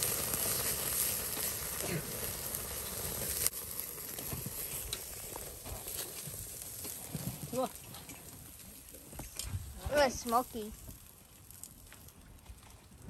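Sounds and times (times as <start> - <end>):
meat sizzling over charcoal: 0.0 - 13.0.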